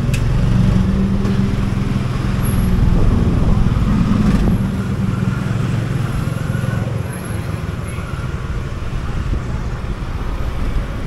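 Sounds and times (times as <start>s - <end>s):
wind noise: 0.0s - 6.4s, 8.0s - 11.0s
street traffic: 0.0s - 11.0s.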